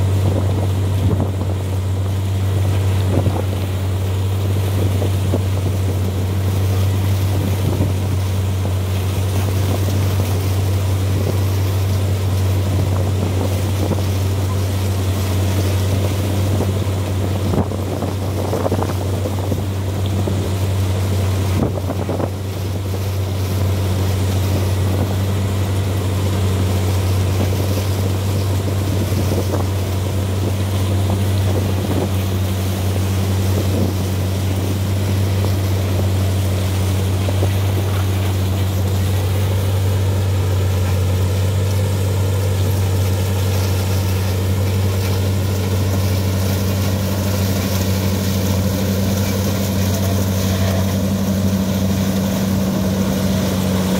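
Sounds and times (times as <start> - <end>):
harvester diesel engine droning: 0.0 - 53.9
tractor engine: 0.0 - 53.9.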